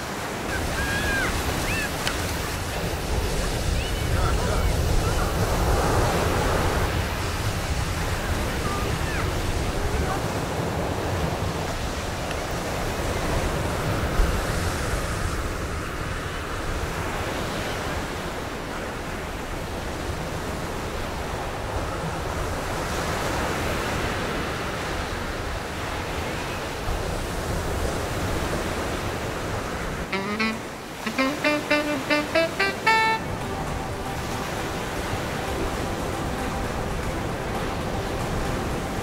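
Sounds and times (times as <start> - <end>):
sea surf breaking on shore: 0.0 - 39.0.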